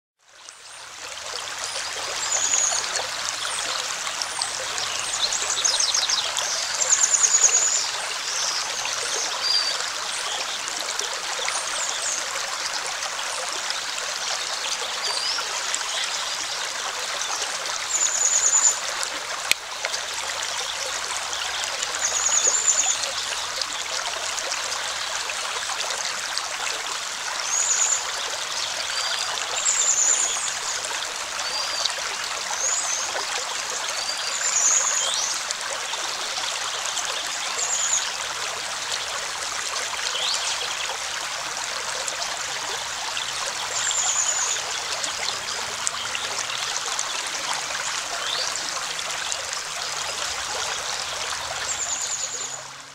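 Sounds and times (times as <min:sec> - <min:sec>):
creek running over stones: 0:00.2 - 0:52.9.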